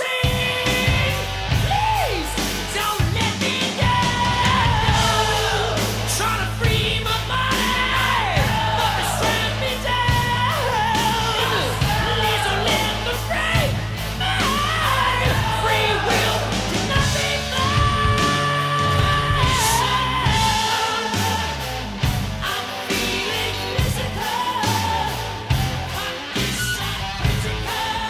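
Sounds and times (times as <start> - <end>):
drum beat and bass: 0.0 - 28.0
person singing: 0.0 - 28.0.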